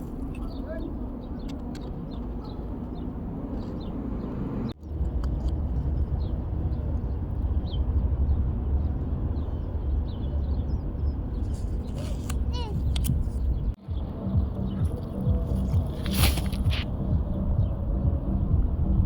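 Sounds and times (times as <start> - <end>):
low outdoor rumble: 0.0 - 19.0
small birds chirping: 0.2 - 19.0.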